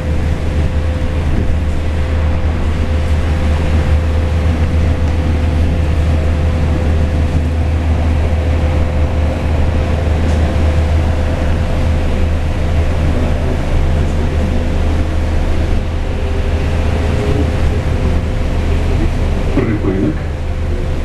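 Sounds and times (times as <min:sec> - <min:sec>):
bus road rumble: 0:00.0 - 0:21.0
mid-pitched hum: 0:00.0 - 0:21.0.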